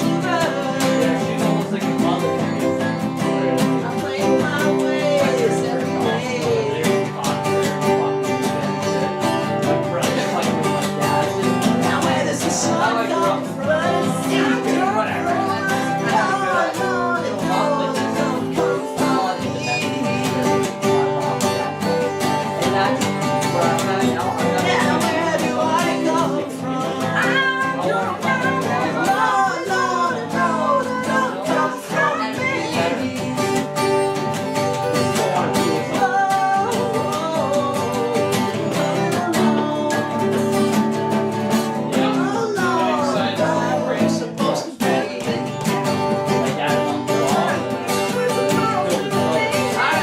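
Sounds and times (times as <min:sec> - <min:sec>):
acoustic guitar strummed chords: 0:00.0 - 0:50.0
guitar lead melody: 0:00.0 - 0:50.0.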